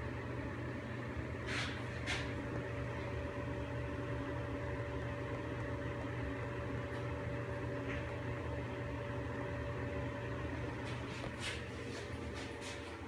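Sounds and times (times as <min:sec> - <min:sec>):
exhaust fan running: 0:00.0 - 0:13.0.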